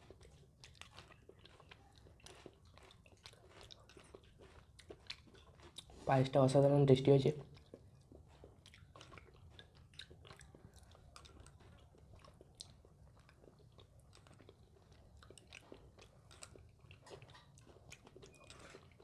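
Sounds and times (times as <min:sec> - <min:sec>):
chewing and mouth sounds: 0:00.0 - 0:19.0.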